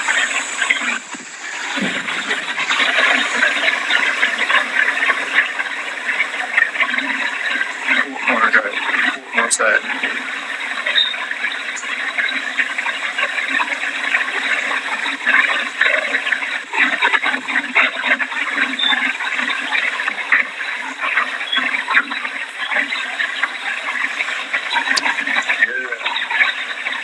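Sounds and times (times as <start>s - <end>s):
raindrops crackling: 0.0s - 27.0s.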